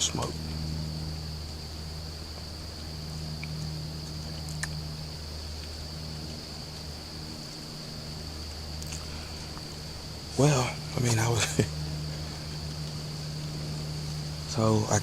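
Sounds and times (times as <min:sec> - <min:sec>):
high-pitched insect drone: 0:00.0 - 0:15.0
low steady hum: 0:00.0 - 0:15.0.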